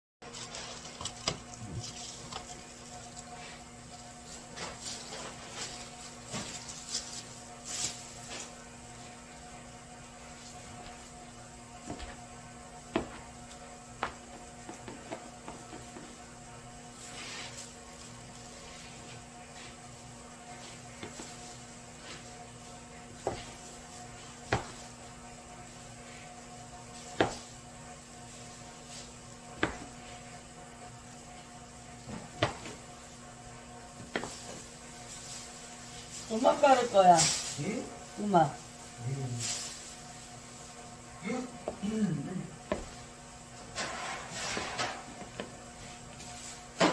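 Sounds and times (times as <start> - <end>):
low electrical hum: 0.2 - 46.9.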